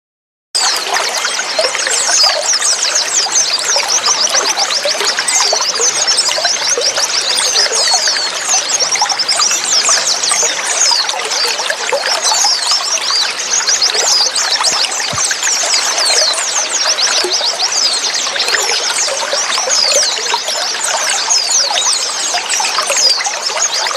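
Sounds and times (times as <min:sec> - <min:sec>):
birds chirping high-pitched: 0:00.6 - 0:23.9
running water trickling: 0:00.6 - 0:23.9.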